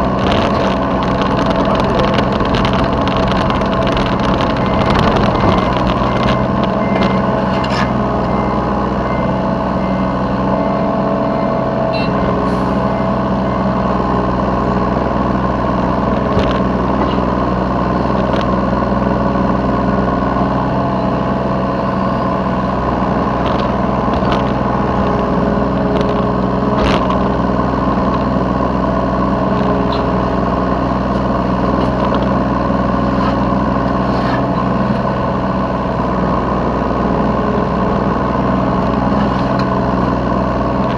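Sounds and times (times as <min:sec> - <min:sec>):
diesel excavator engine running: 0:00.0 - 0:40.9.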